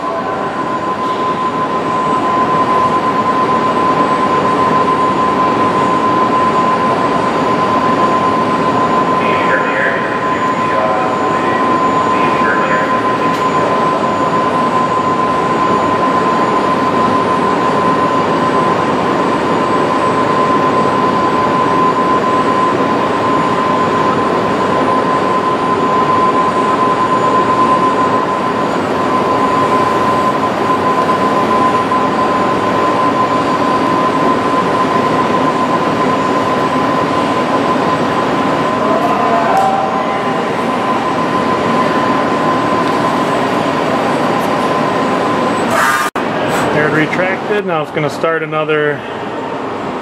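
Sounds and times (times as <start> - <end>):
high machine whine: 0.0 - 50.0.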